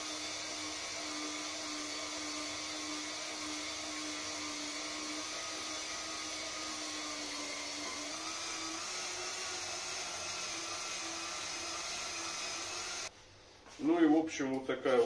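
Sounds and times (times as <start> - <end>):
cordless drill whine: 0.0 - 13.1.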